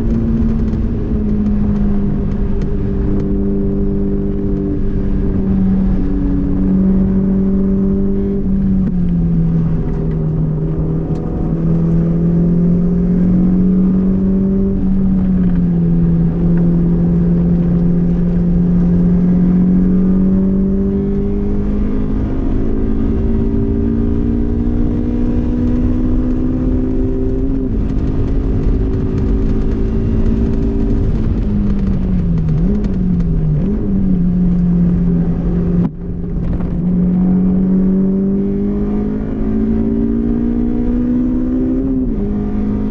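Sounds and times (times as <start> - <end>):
car engine revving high: 0.0 - 42.9
road and wind noise: 0.0 - 42.9.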